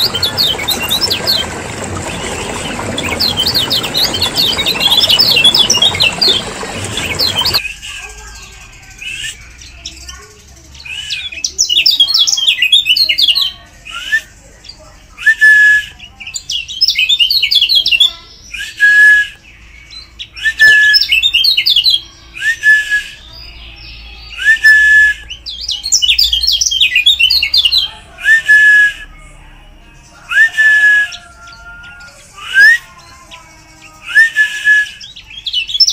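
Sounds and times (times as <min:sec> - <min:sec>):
bird twittering and whistling: 0:00.0 - 0:29.1, 0:30.2 - 0:35.9.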